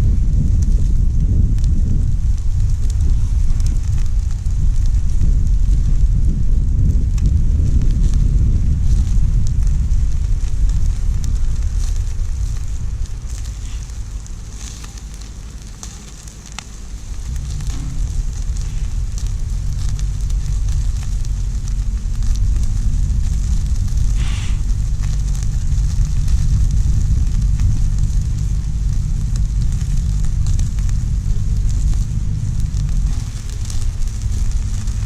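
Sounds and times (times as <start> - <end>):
campfire crackling and popping: 0.0 - 35.0
low rumble: 0.0 - 35.0.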